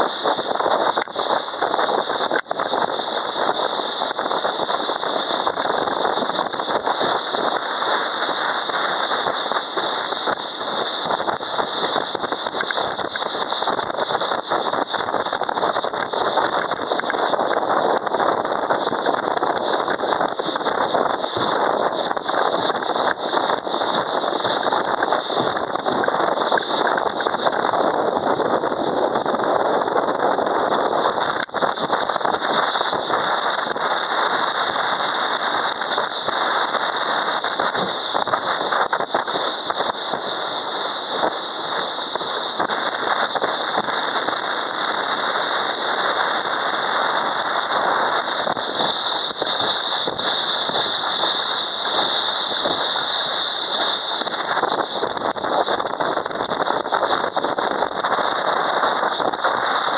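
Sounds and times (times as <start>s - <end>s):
wind and water spray rushing: 0.0s - 59.9s.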